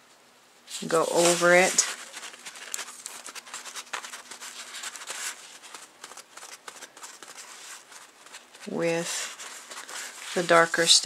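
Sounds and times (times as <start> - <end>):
paintbrush bristles scratching: 0.7 - 11.0.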